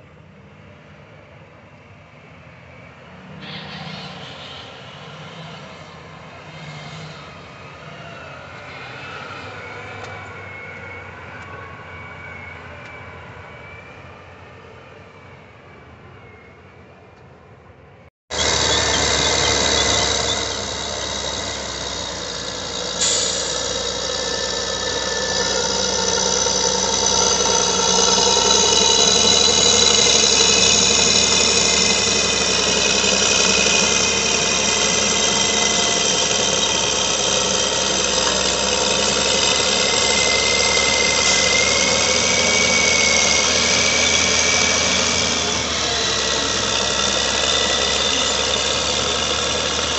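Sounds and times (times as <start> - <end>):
diesel engine under load: 0.0 - 49.9
high-pitched metal squeal: 3.3 - 14.1, 18.3 - 49.9.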